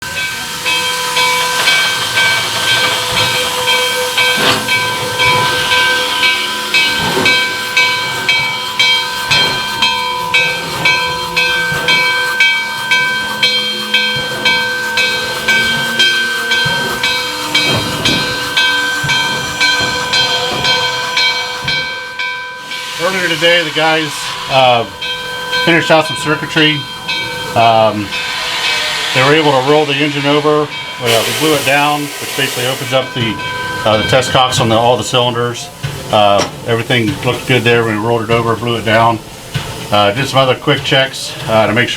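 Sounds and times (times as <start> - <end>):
whining tones: 0.0 - 35.1
diesel locomotive engine running: 0.0 - 41.9
steady hissing: 0.1 - 41.9.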